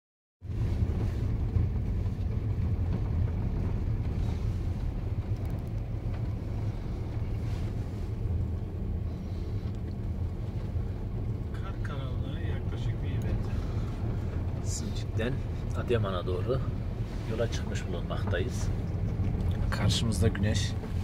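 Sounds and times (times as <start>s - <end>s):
car driving on snow: 0.4s - 21.0s.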